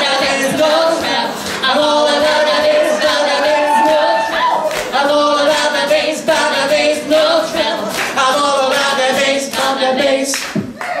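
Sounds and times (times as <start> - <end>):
man and woman singing: 0.0 - 10.8.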